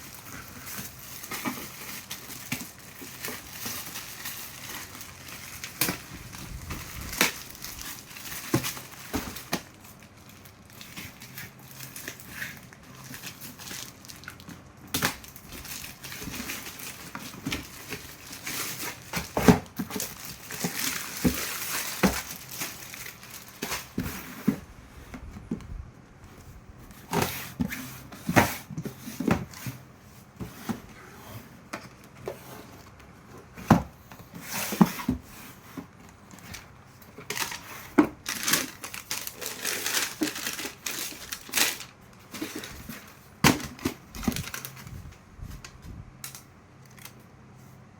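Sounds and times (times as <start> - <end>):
wrapping crinkling and rustling: 0.0 - 25.5, 26.3 - 47.3.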